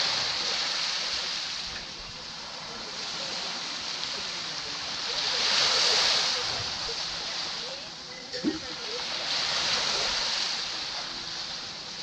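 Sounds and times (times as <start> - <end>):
small waves washing onto sand: 0.0 - 12.0.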